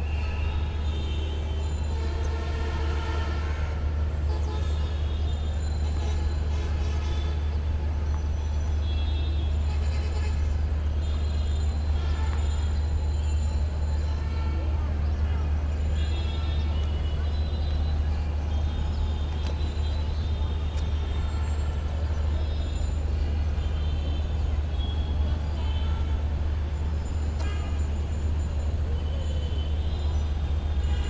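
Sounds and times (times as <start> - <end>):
low rumble of vehicles: 0.0 - 31.0.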